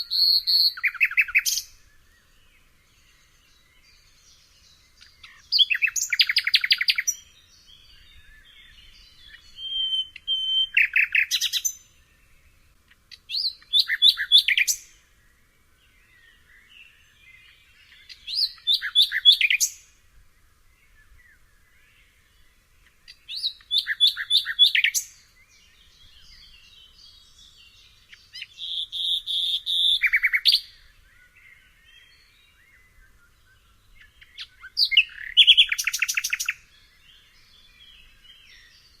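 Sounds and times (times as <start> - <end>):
nightingale singing: 0.0 - 39.0.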